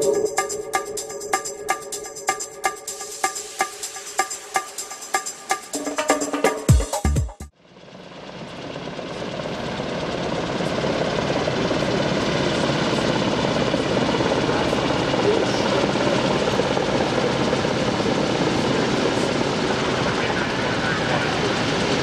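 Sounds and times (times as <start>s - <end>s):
helicopter in flight: 0.0s - 5.7s, 7.5s - 22.0s.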